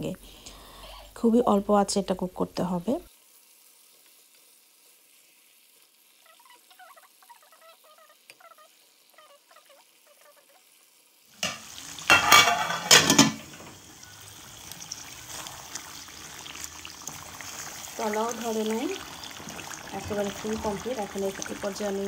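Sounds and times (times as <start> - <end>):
chicken sizzling in a pot: 0.2 - 22.0.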